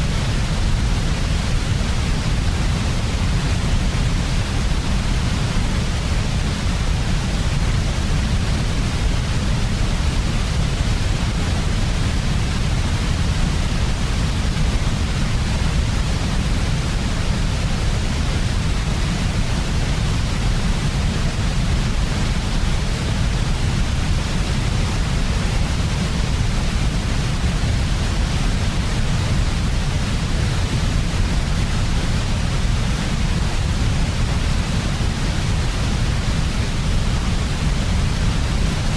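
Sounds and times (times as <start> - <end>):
steady white noise: 0.0 - 38.9.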